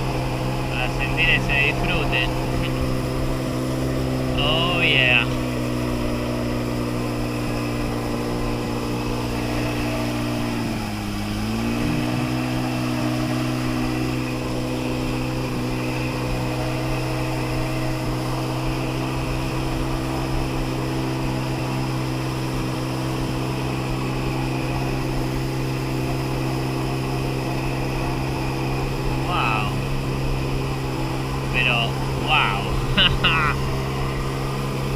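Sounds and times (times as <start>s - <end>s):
jet ski engine running: 0.0s - 34.9s.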